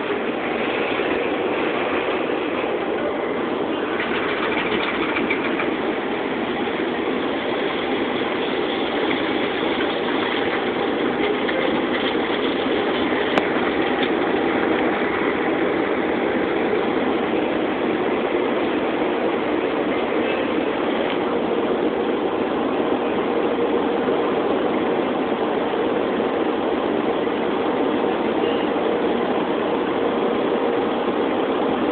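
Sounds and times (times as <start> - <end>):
car wash water spray rushing: 0.0 - 31.9.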